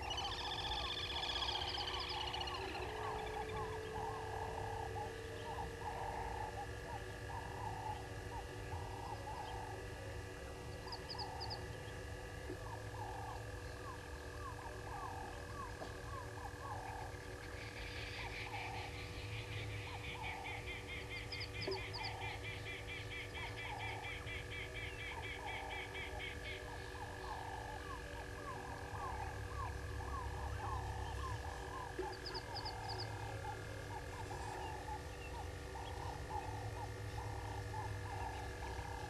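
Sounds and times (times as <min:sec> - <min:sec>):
frog croaking: 0:00.0 - 0:10.0, 0:10.8 - 0:11.7, 0:12.4 - 0:39.0
steady high drone: 0:00.0 - 0:39.0.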